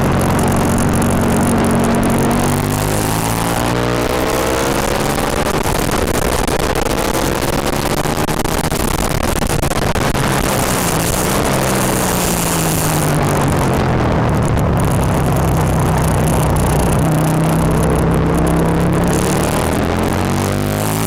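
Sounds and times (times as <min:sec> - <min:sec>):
motorcycle engine accelerating: 0:00.0 - 0:21.0
steady rushing noise: 0:00.0 - 0:21.0.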